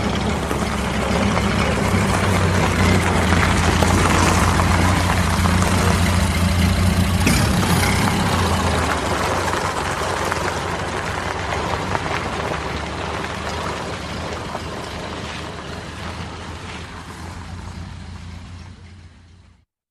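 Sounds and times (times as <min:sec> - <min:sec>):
car engine running: 0:00.0 - 0:19.6.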